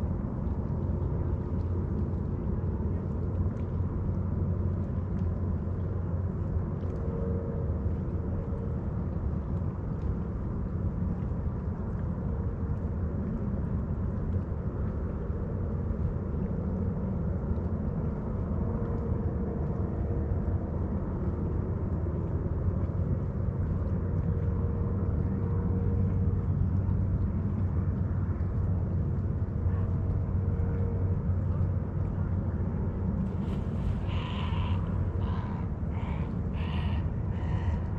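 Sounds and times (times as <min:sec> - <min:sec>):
faint higher hum: 0:00.0 - 0:37.9
low engine drone: 0:00.0 - 0:37.9.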